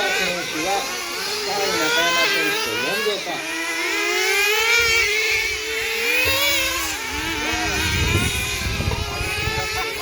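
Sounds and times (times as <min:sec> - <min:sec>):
small race car engines running: 0:00.0 - 0:10.0.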